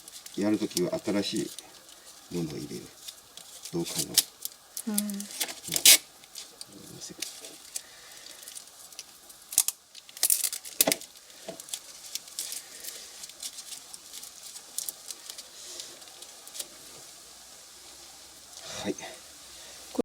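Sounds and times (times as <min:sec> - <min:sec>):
plastic crinkling and tearing: 0:00.0 - 0:17.3.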